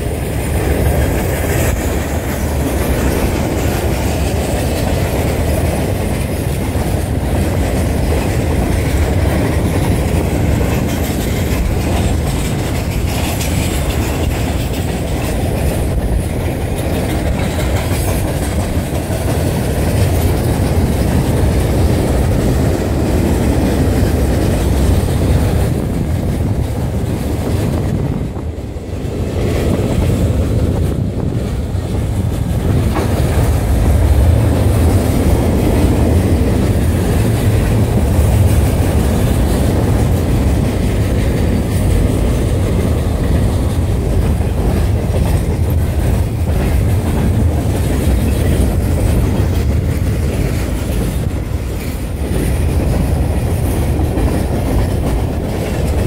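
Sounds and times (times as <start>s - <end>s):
steel wheels running on rails: 0.0s - 56.0s.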